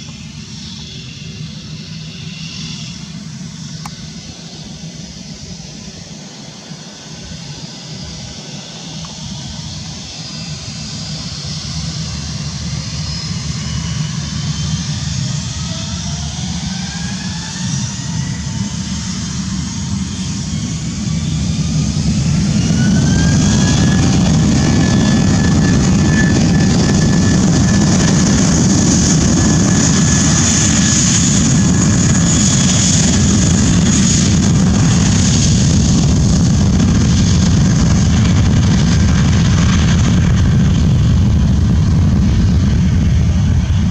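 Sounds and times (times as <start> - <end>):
jet engines spooling up: 0.0 - 43.9.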